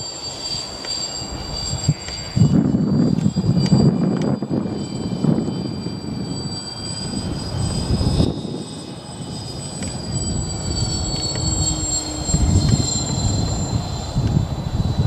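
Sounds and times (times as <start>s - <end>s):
model airplane motors whining: 0.0s - 15.0s.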